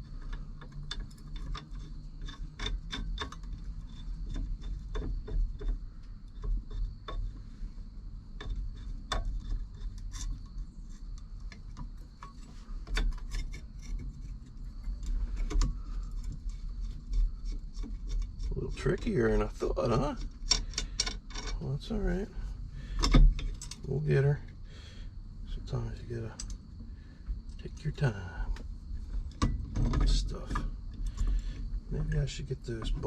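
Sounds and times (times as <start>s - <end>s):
steering wheel parts clicking and rubbing: 0.0s - 24.6s, 27.3s - 33.0s
low steady hum: 0.0s - 33.0s.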